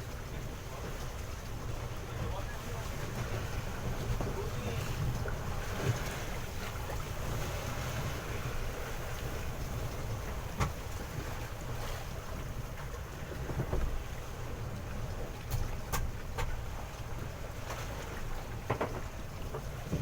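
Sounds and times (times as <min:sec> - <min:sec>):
water sloshing around boat: 0:00.0 - 0:20.0.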